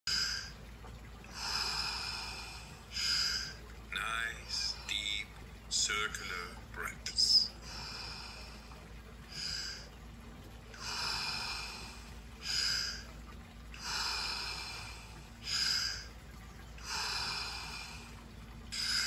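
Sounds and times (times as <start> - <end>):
man breathing rhythmically: 0.1 - 5.7, 7.6 - 19.0.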